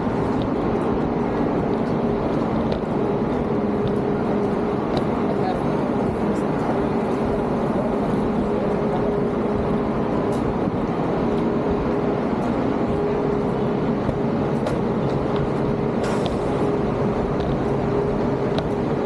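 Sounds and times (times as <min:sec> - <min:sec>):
bus running: 0:00.0 - 0:19.0
street traffic droning: 0:00.0 - 0:19.0.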